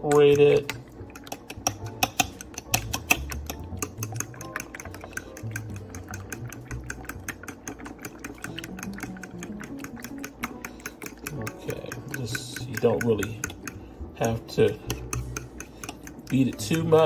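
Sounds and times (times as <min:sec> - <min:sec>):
eggs beaten in a bowl: 0:00.0 - 0:17.0
utensil clicking against bowl: 0:00.0 - 0:17.0.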